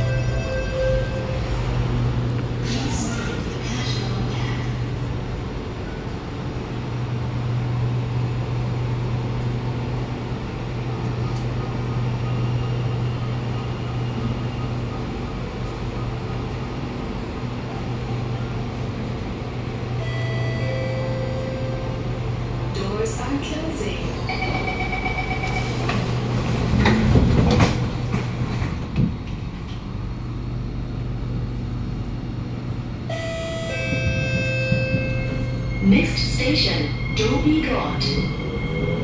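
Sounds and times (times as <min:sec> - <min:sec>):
metro car low hum: 0:00.0 - 0:39.0.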